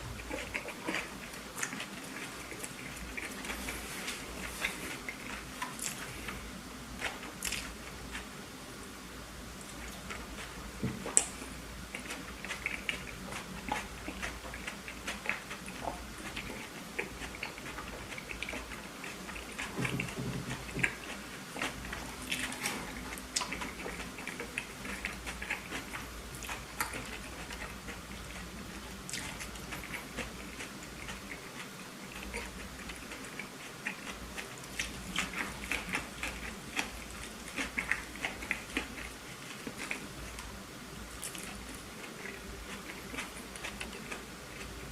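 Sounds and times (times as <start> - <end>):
chewing with wet mouth sounds: 0.0 - 8.6, 9.5 - 44.9.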